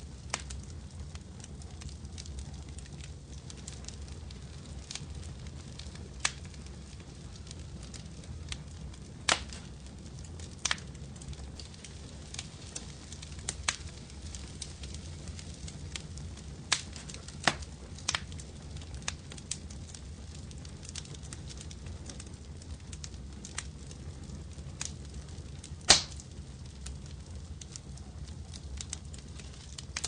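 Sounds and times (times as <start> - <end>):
fire crackling: 0.0 - 30.0.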